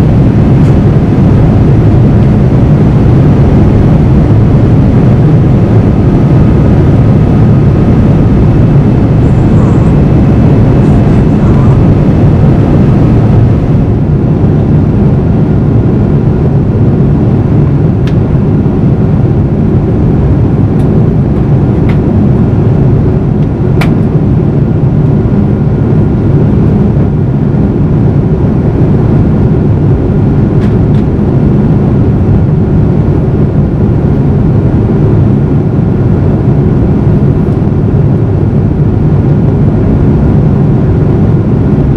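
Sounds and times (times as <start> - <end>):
airplane cabin roar: 0.0 - 41.9.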